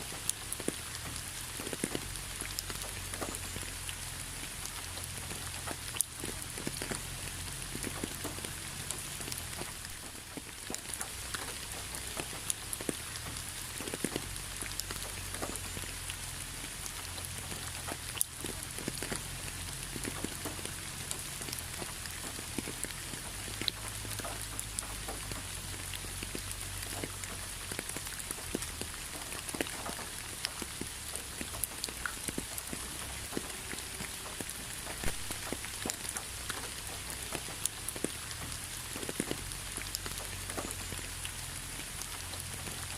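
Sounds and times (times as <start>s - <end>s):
rain hiss: 0.0s - 42.9s
raindrops ticking: 0.0s - 42.9s.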